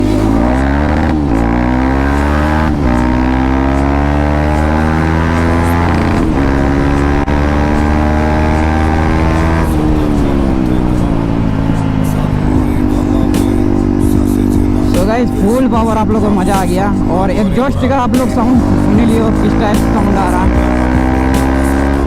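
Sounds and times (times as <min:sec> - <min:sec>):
motorcycle engine revving through gears: 0:00.0 - 0:22.0.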